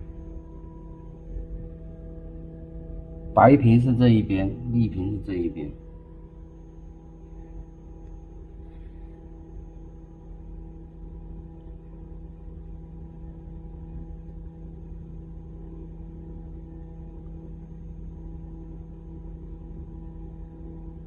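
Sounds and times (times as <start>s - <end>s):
low hum with overtones: 0.0s - 21.0s.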